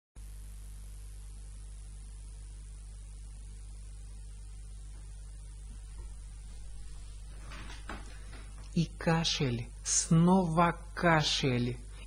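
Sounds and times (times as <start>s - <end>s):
electrical mains hum: 0.2s - 12.0s.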